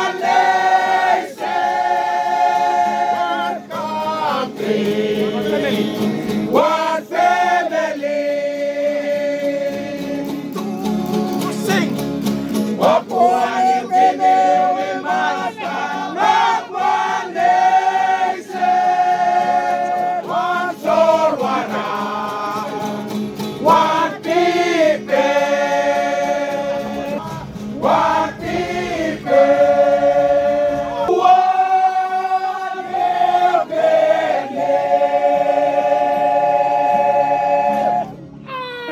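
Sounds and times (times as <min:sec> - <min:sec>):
voices singing in harmony: 0:00.0 - 0:11.4, 0:12.8 - 0:38.2.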